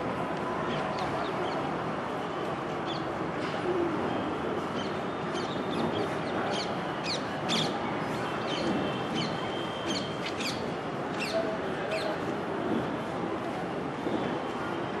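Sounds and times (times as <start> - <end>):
city traffic din: 0.0 - 15.0.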